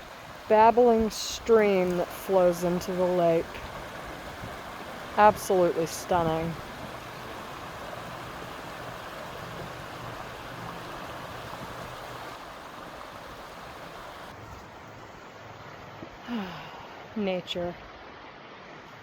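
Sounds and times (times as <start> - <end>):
stream babbling over rocks: 0.0 - 19.0.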